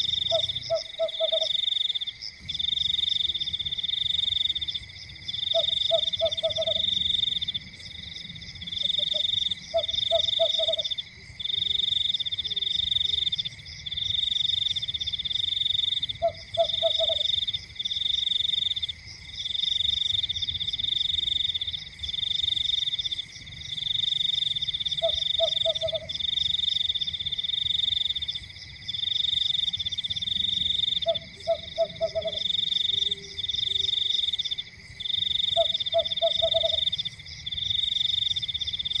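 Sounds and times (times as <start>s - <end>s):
frogs pulsing trill: 0.0s - 39.0s.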